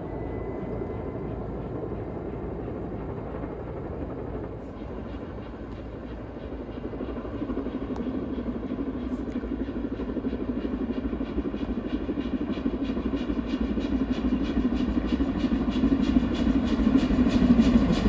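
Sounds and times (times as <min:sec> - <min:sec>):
steam locomotive exhaust beats: 0:00.0 - 0:18.0.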